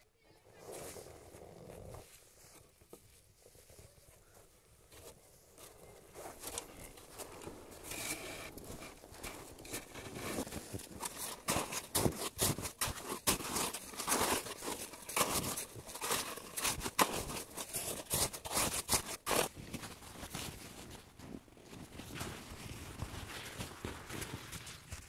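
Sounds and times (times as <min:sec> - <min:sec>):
snow crunching and scraping: 0:00.5 - 0:25.0.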